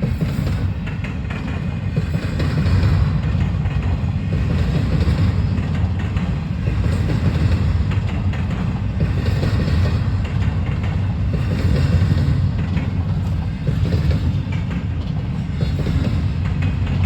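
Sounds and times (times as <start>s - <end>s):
freight train rumbling: 0.0s - 17.0s
wheels clicking over rails: 0.0s - 17.0s.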